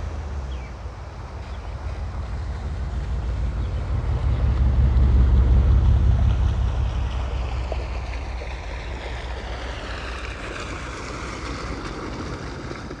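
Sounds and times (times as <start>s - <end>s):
flowing river water: 0.0s - 13.0s
wind buffeting microphone: 0.0s - 13.0s.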